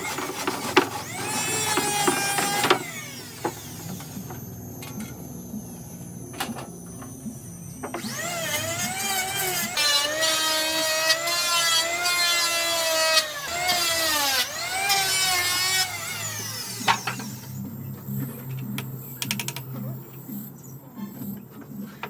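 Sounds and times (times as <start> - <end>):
power tool motor whining: 0.0 - 20.4.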